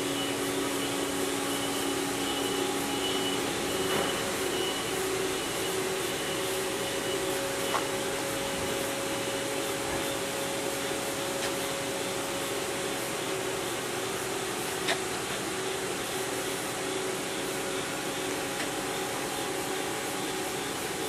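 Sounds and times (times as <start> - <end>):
lathe hiss and hum: 0.0 - 21.0.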